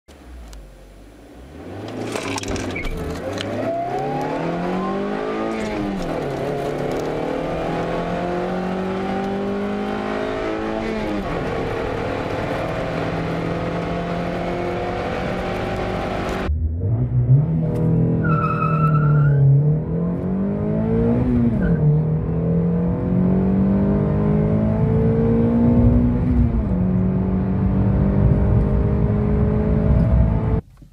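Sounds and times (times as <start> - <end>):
car engine accelerating: 0.5 - 30.6.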